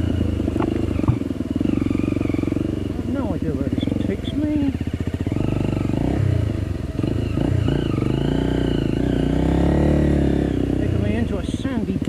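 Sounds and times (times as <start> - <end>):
motorcycle engine chugging and revving: 0.0 - 12.0.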